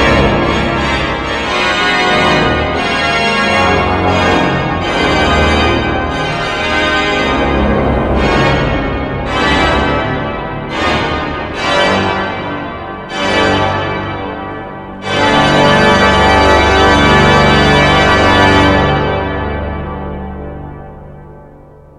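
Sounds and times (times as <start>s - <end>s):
pipe organ chords: 0.0s - 21.9s.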